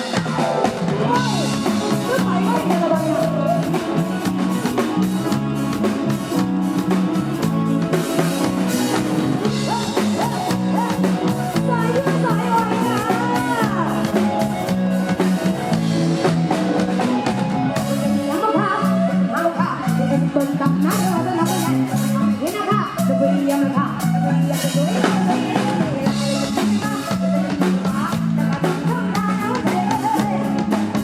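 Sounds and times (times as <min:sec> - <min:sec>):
drum kit beat: 0:00.0 - 0:31.0
live pop band music: 0:00.0 - 0:31.0
person singing: 0:00.0 - 0:31.0.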